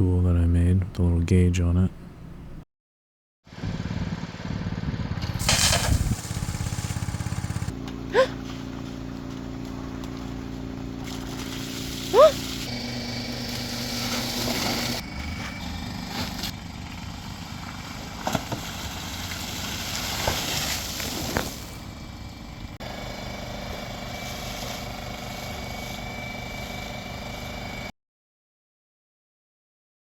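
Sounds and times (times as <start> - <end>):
small engine running: 3.5 - 27.9.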